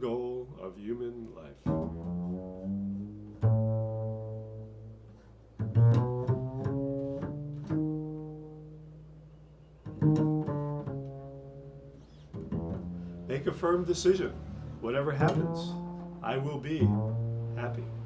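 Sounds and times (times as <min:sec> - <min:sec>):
low plucked string notes: 0:01.6 - 0:18.0.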